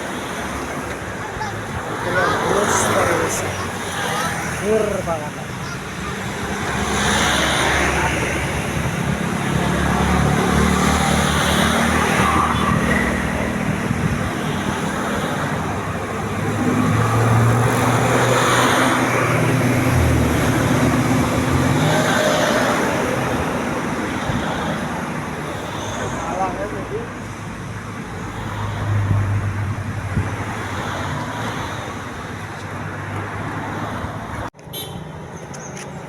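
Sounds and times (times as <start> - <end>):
bus engines droning: 0.0 - 36.0
road noise: 0.0 - 36.0.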